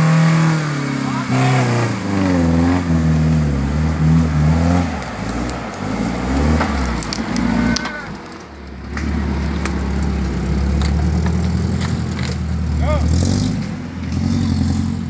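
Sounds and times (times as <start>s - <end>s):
engine crackles: 0.0s - 15.0s
off-road engine revving: 0.0s - 15.0s.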